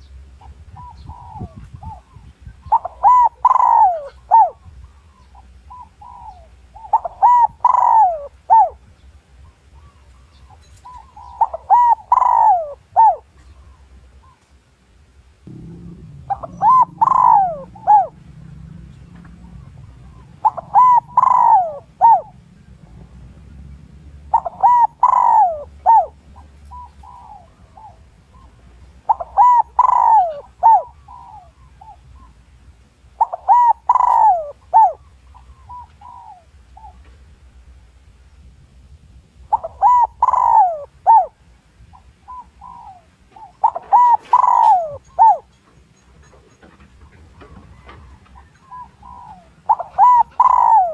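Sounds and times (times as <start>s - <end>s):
dove cooing: 0.4s - 8.8s, 10.5s - 13.3s, 15.5s - 32.4s, 33.1s - 37.1s, 39.5s - 50.9s.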